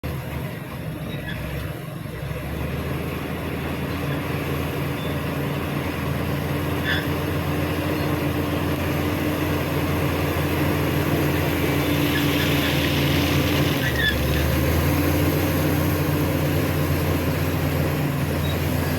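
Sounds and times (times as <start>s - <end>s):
bulldozer diesel engine running: 0.0s - 18.9s.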